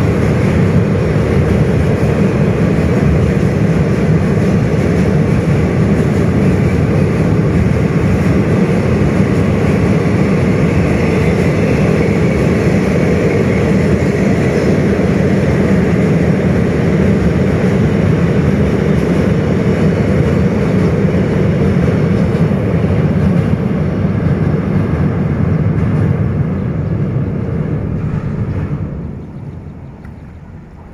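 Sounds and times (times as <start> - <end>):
train wheels rumbling on bridge: 0.0 - 30.9.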